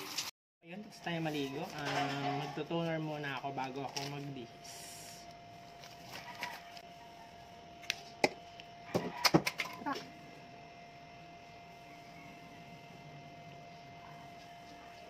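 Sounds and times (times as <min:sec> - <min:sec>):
faint steady hum: 0:00.7 - 0:09.0, 0:09.7 - 0:15.0.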